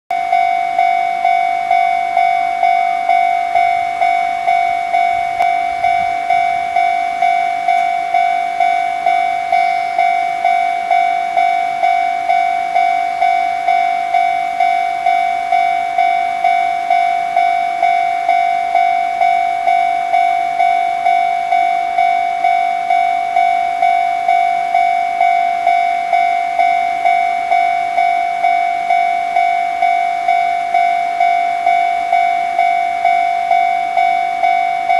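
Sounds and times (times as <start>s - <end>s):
level-crossing warning bell: 0.1s - 34.9s.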